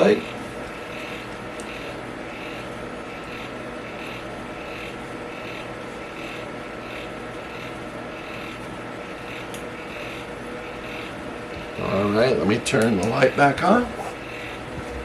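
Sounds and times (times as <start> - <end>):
electric fan whirring: 0.0 - 15.0.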